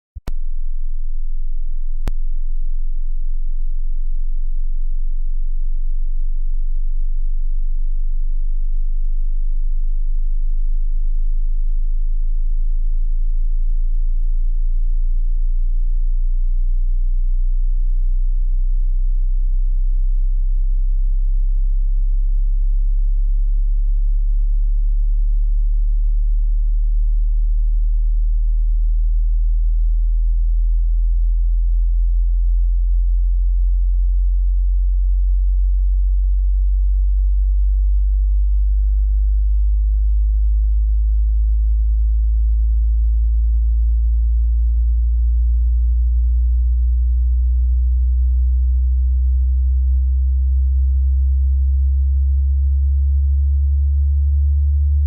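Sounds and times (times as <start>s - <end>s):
low sine tone rising in pitch: 0.2s - 55.0s.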